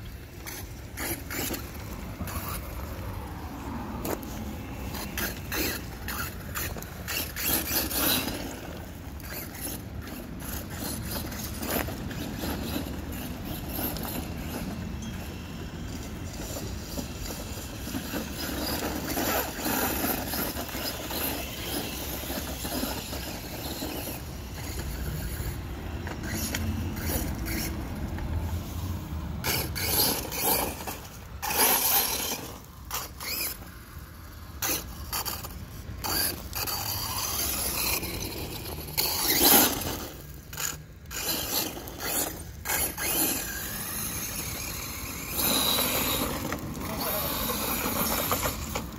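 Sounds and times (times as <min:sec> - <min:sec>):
tyres crunching on gravel: 0:00.1 - 0:48.9.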